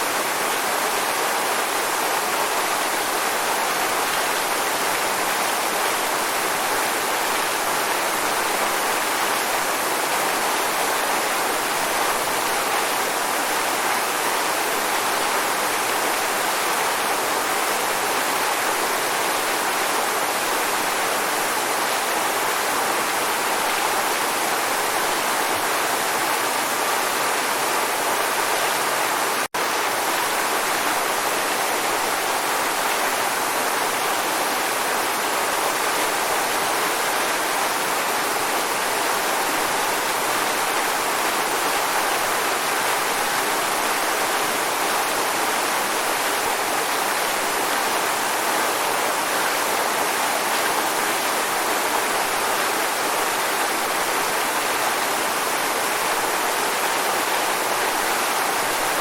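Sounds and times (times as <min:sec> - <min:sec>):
waterfall roaring: 0:00.0 - 0:59.0.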